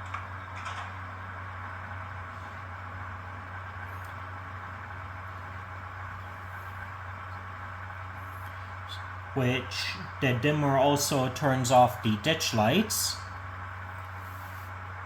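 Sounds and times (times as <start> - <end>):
model train diesel engine idle: 0.0 - 15.0.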